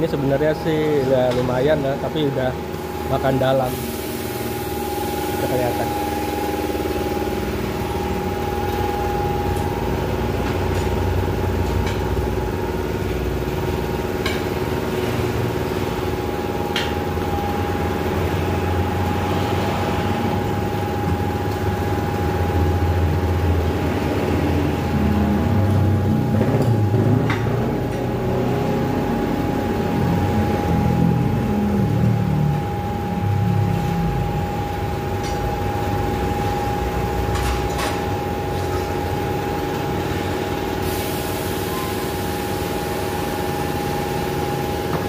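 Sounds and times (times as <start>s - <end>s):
machinery humming: 0.0s - 45.0s.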